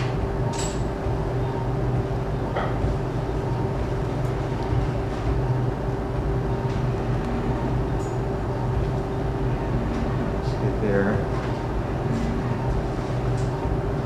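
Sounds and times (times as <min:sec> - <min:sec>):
equipment humming: 0:00.0 - 0:14.0.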